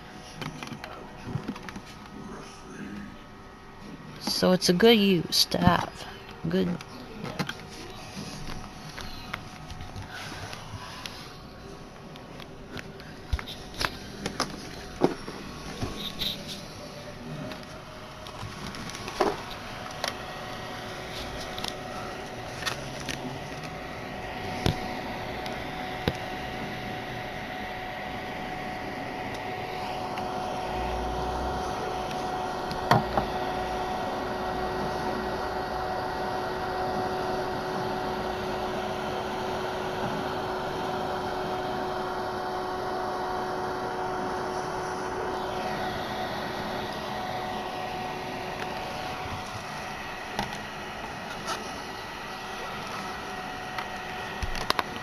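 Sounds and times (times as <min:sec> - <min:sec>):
cooling fan whirring: 0:00.0 - 0:55.0.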